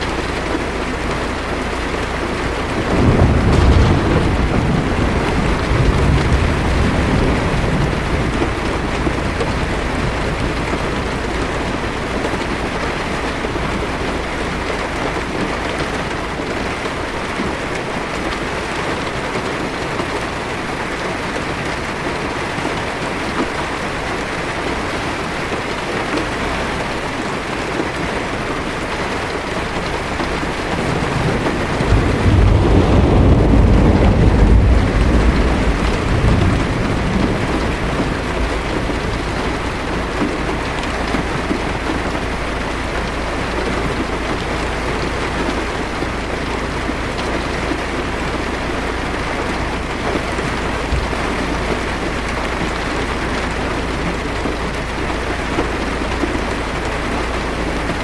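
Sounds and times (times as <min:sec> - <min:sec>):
low thunder rumble: 0:00.0 - 0:25.6, 0:26.2 - 0:58.0
heavy rain on car roof: 0:00.0 - 0:58.0.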